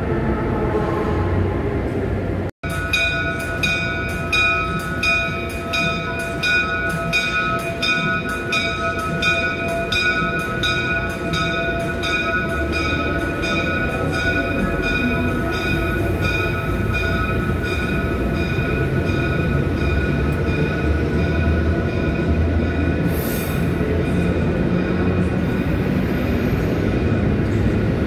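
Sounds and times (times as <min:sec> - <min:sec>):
train rumble: 0:00.0 - 0:28.0.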